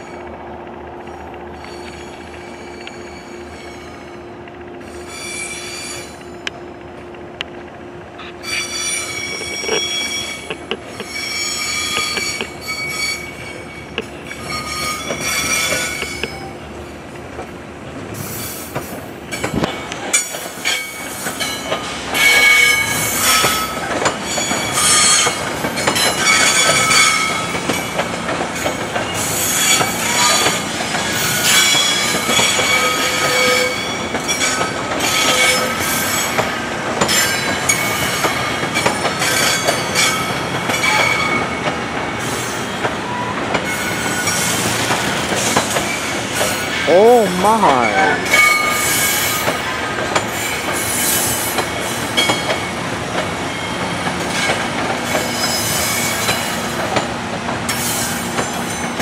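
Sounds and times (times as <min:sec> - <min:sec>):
train rolling past: 0:00.0 - 0:59.0
train wheels squealing: 0:01.1 - 0:06.4, 0:08.2 - 0:16.9, 0:18.2 - 0:46.8, 0:48.3 - 0:52.8, 0:53.4 - 0:57.1, 0:57.7 - 0:59.0.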